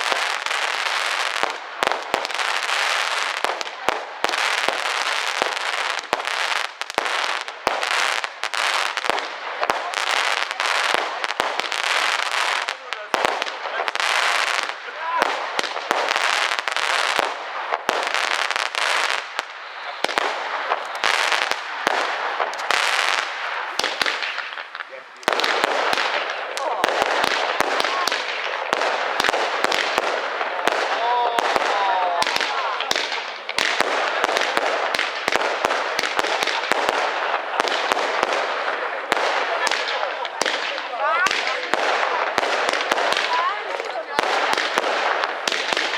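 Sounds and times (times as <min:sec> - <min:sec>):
fireworks bangs: 0:00.0 - 0:45.9
fireworks crackling: 0:00.0 - 0:45.9.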